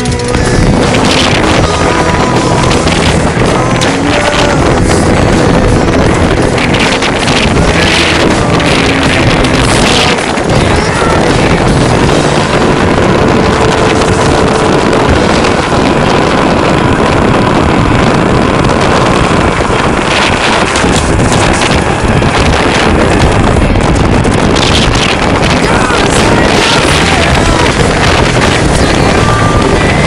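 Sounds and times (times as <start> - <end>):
seawater splashing along hull: 0.0 - 30.0
wind buffeting microphone: 0.0 - 30.0.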